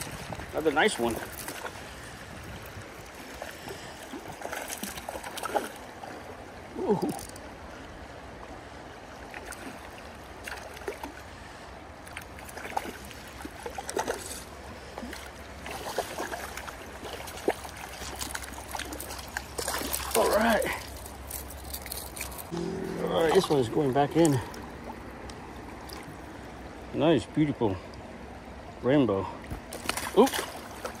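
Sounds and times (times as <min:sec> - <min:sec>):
river water gurgling: 0:00.0 - 0:31.0.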